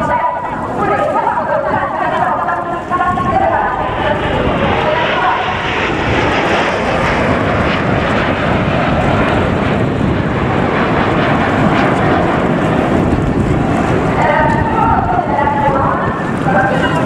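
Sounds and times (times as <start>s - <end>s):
jets flying overhead: 0.0s - 17.0s.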